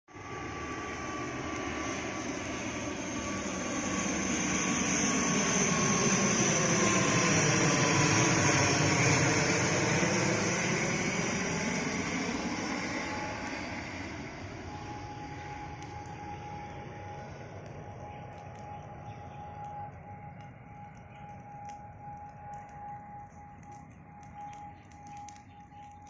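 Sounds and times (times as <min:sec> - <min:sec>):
airplane passing overhead: 0:00.1 - 0:26.0.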